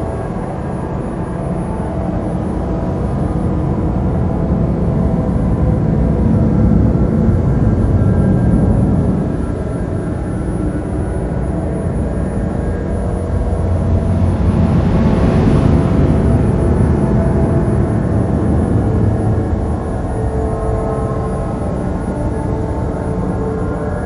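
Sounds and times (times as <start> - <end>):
dark ambient drone music: 0.0 - 24.0.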